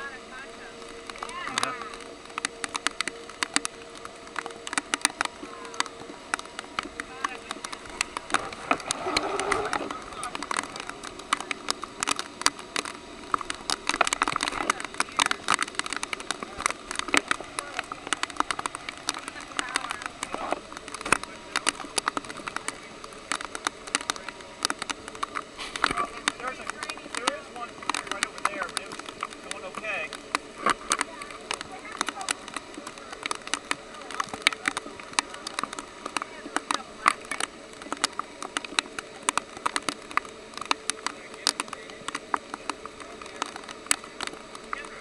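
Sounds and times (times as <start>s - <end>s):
rush of floodwater: 0.0s - 45.0s
sharp clicks and knocks: 0.8s - 45.0s.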